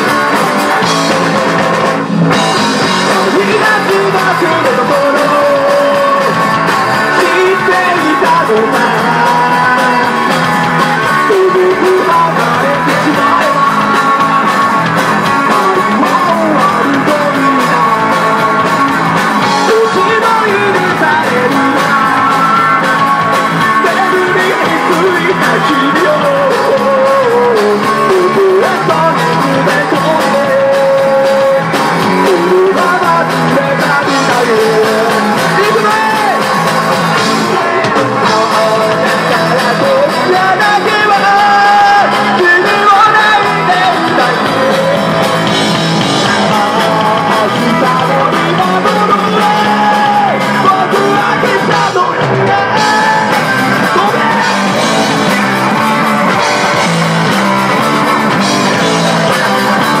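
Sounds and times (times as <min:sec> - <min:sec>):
bass guitar: 0:00.0 - 1:00.0
drum kit: 0:00.0 - 1:00.0
electric guitars: 0:00.0 - 1:00.0
person singing lead: 0:02.3 - 1:00.0.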